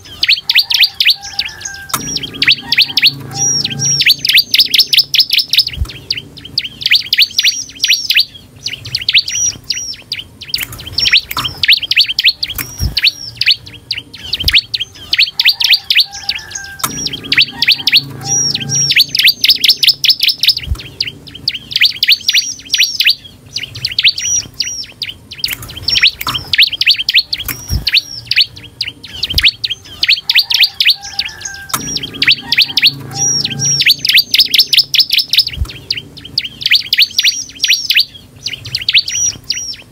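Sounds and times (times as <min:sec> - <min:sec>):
bird singing rapid sharp chirps: 0:00.0 - 0:39.9.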